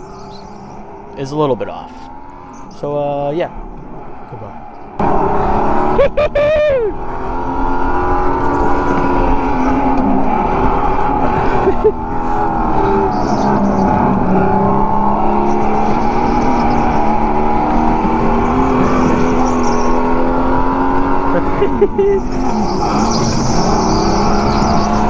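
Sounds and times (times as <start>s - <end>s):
go-kart motor running hard: 0.0s - 3.0s, 3.6s - 25.0s.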